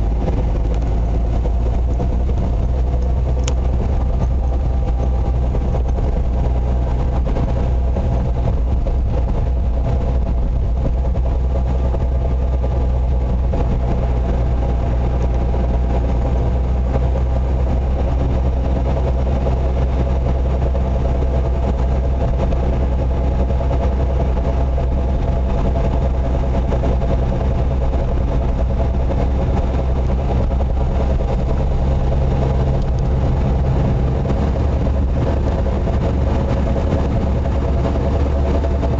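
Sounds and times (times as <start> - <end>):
car engine droning: 0.0 - 38.9
steady tones from moving car: 0.0 - 38.9.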